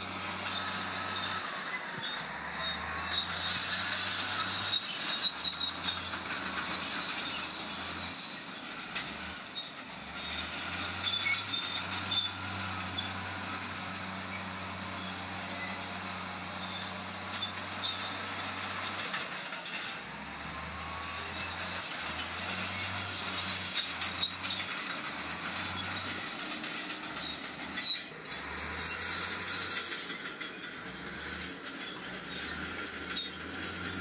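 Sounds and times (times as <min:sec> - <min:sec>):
diesel engine running: 0:00.0 - 0:34.0
metal tracks squealing and clanking: 0:00.0 - 0:34.0.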